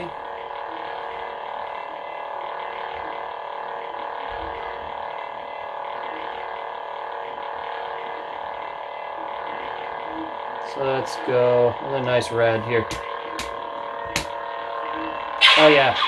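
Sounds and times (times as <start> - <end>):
lightsaber electronic hum: 0.0 - 16.0.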